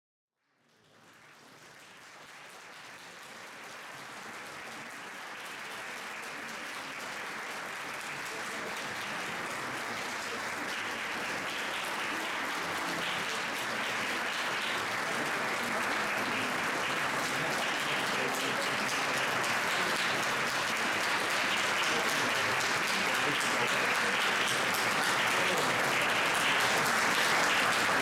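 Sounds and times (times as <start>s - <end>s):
audience applauding: 0.7s - 28.0s.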